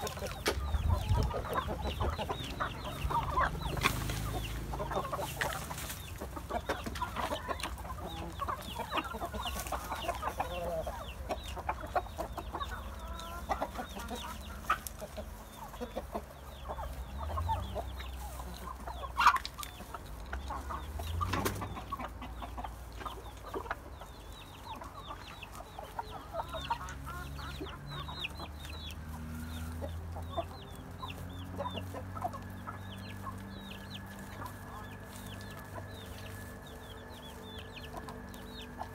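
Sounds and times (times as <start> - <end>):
hens clucking softly: 0.0 - 38.9.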